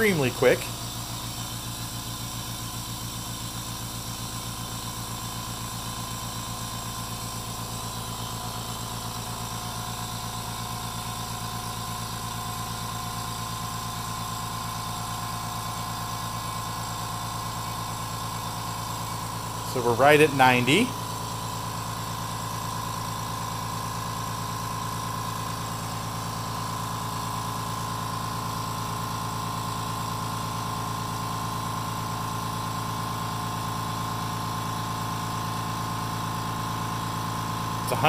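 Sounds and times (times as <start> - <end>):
air compressor running: 0.0 - 38.0.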